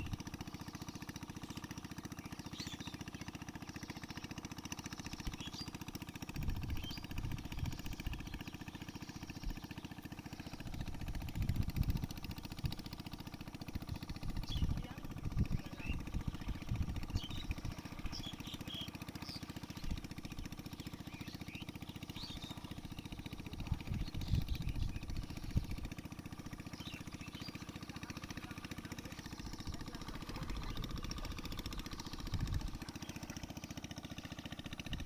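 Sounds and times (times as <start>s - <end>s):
birds chirping: 0.0s - 35.0s
small engine idling: 0.0s - 35.0s.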